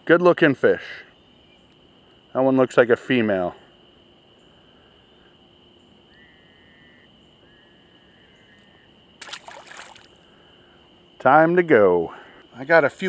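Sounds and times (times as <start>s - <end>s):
insects chirping drone: 0.0s - 13.0s.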